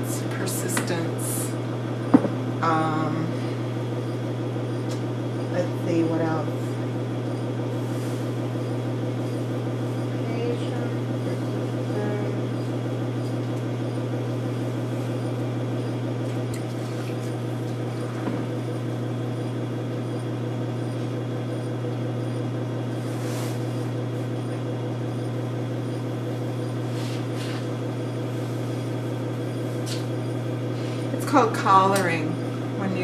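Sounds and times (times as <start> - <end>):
electric potter's wheel humming: 0.0 - 33.0.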